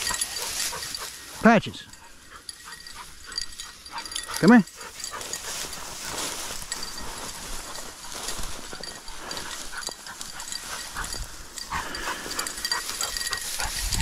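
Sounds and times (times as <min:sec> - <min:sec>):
footsteps in grass: 0:00.0 - 0:01.5, 0:02.1 - 0:14.0
dry grass rustling and crackling: 0:00.0 - 0:01.6, 0:02.2 - 0:14.0.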